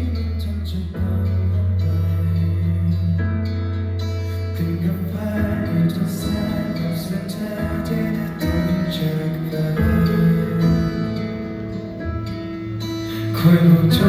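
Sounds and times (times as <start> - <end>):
live pop song: 0.0 - 14.0.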